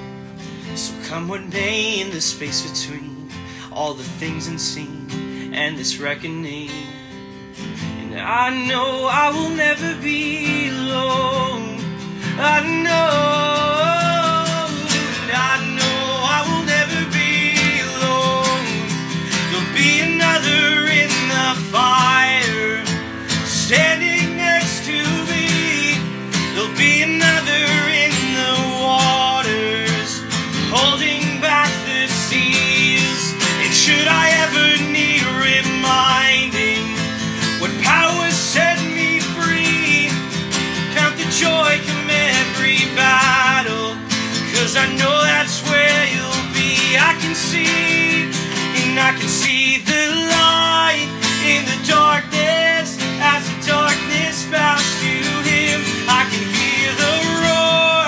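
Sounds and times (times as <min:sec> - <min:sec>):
acoustic guitar strumming: 0:00.0 - 0:58.0
man singing: 0:00.6 - 0:07.1, 0:07.9 - 0:58.0.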